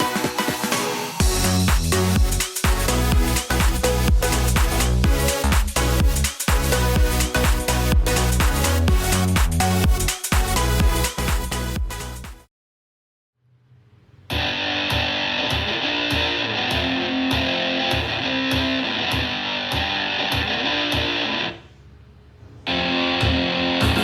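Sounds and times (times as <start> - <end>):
rock music through a speaker: 0.0 - 12.4, 14.3 - 21.6, 22.7 - 24.0.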